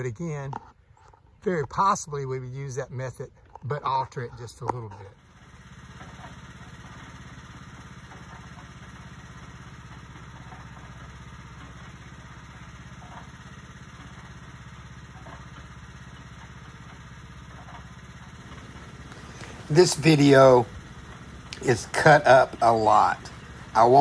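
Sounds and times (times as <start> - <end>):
engine idling: 0.8 - 24.0.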